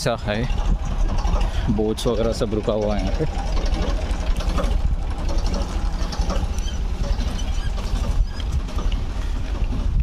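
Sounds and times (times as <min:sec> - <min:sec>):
light ticking and rattling: 0:00.0 - 0:10.0
wind buffeting microphone: 0:00.0 - 0:10.0.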